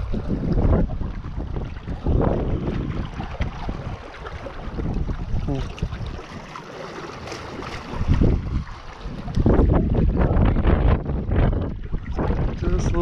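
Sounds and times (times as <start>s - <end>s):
lake waves against rocks: 0.0s - 13.0s
wind buffeting microphone: 0.0s - 13.0s.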